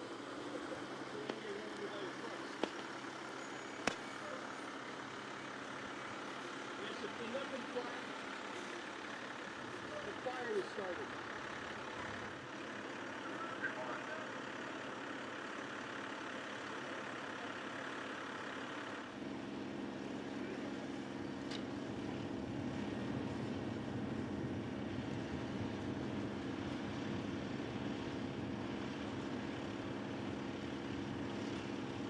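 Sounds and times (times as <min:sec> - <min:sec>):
fire engine humming: 0:00.0 - 0:32.0.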